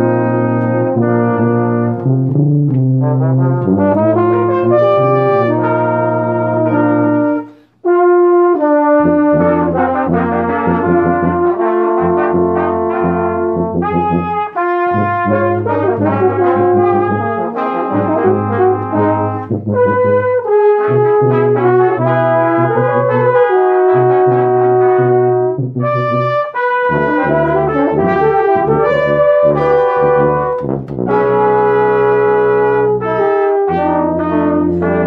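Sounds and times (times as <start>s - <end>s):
low bass line: 0.0s - 7.3s, 9.2s - 23.2s, 24.0s - 35.0s
brass ensemble playing chords: 0.0s - 35.0s.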